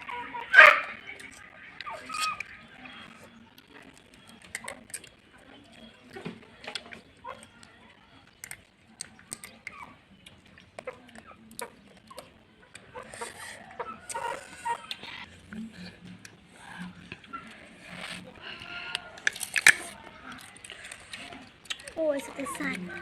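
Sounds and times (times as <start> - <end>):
crab shells cracking: 0.0 - 23.0.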